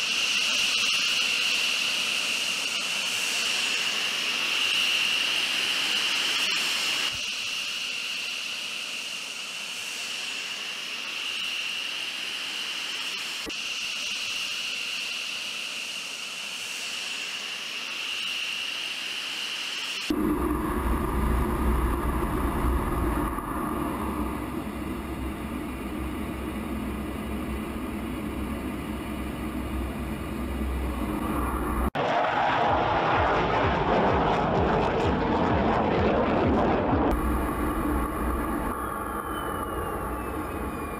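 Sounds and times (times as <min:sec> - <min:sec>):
jet engine idling whine: 0:00.0 - 0:40.9.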